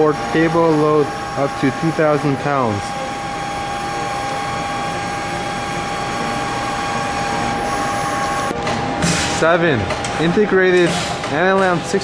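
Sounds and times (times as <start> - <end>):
machine whirring with high whine: 0.0 - 12.0.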